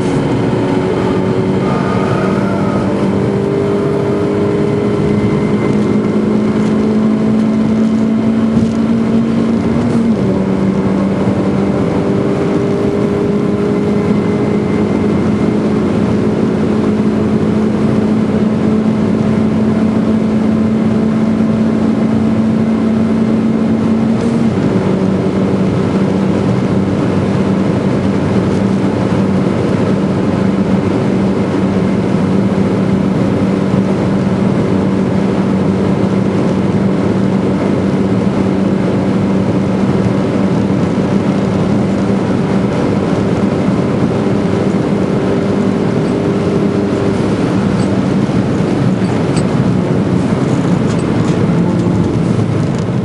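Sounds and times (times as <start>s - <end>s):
car engine at high revs: 0.0s - 53.0s
wind noise: 0.0s - 53.0s.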